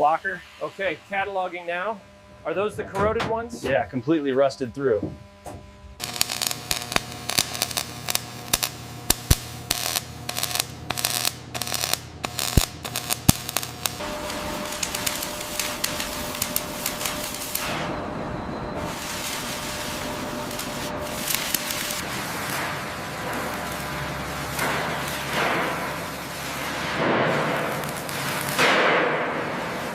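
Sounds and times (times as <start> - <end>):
steady hiss: 0.0 - 2.8, 6.0 - 17.9, 18.9 - 29.9
steady machine hum: 0.0 - 29.9.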